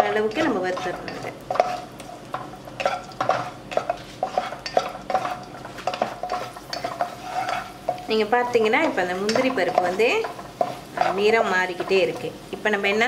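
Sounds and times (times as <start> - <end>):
nuts sizzling in oil: 0.0 - 13.0
spatula scraping and knocking wok: 0.0 - 13.0.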